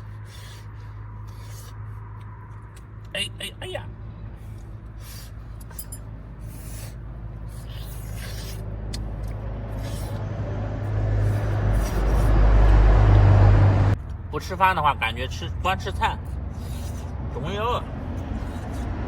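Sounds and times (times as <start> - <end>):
heavy vehicle rumble: 0.0 - 19.0.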